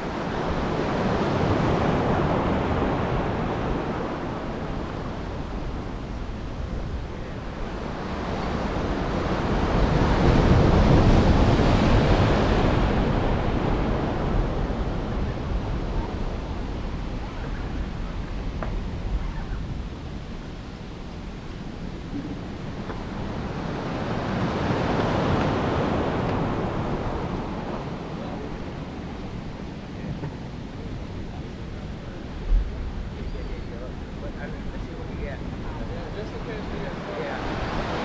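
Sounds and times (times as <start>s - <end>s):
ocean surf washing: 0.0s - 38.0s
wind on microphone: 0.0s - 38.0s.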